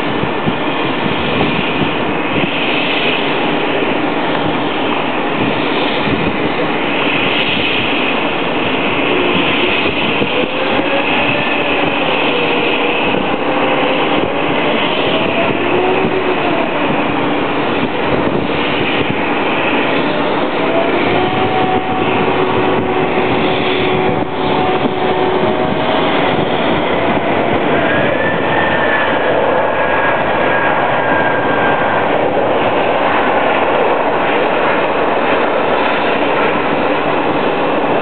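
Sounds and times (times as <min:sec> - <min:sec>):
jet engines rushing: 0:00.0 - 0:38.0.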